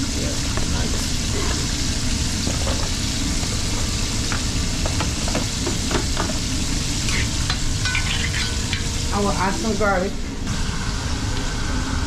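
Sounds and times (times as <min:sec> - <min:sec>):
peppers and onion sizzling: 0:00.0 - 0:12.0.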